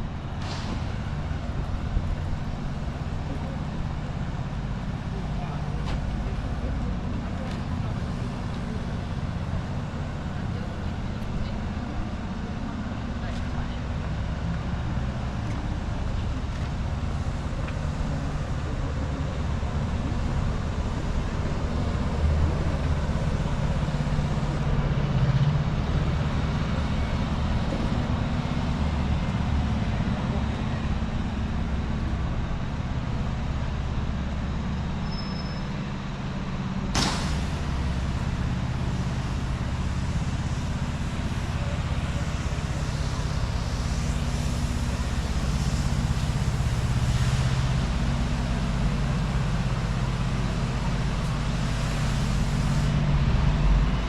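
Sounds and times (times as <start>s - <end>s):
traffic engine rumble: 0.0s - 54.0s.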